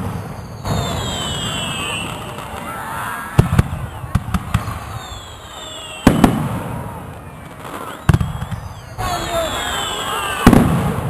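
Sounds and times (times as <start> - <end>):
firework bangs: 0.0 - 11.0
firework whistling: 0.0 - 11.0.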